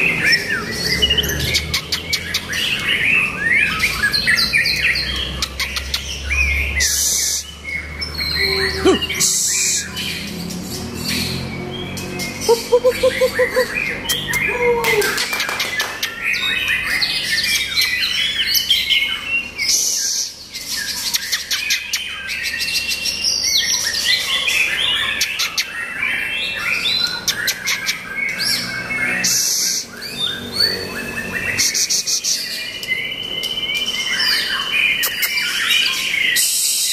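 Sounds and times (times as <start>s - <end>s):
bird singing varied phrases: 0.0s - 36.9s
low evenly spaced bird notes: 0.0s - 36.9s.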